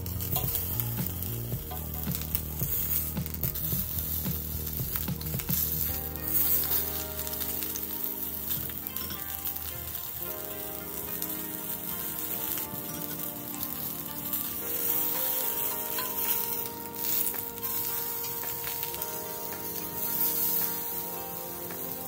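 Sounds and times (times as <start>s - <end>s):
fish sizzling on grill pan: 0.0s - 22.0s.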